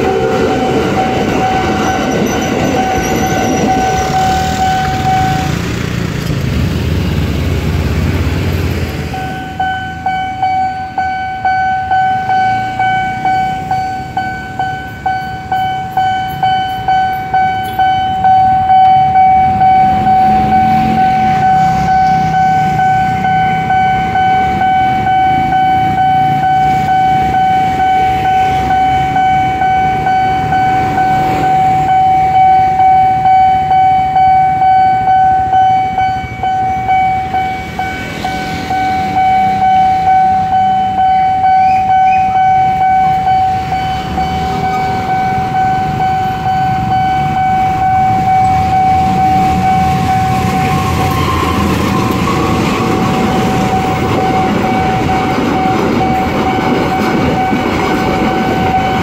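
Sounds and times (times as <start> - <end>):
level crossing bell ringing: 0.0 - 5.6, 9.0 - 50.6, 53.4 - 59.0.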